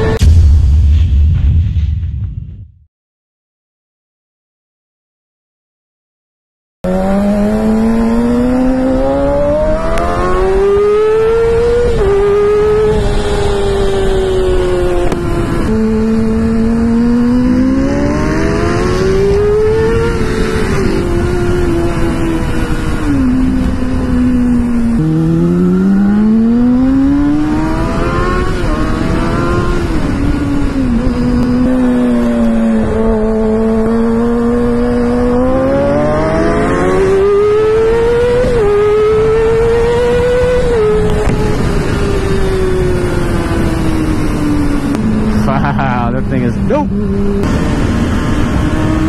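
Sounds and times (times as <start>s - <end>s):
motorcycle engine accelerating: 0.0s - 0.4s, 6.8s - 49.0s
wind rush on microphone: 8.2s - 49.0s.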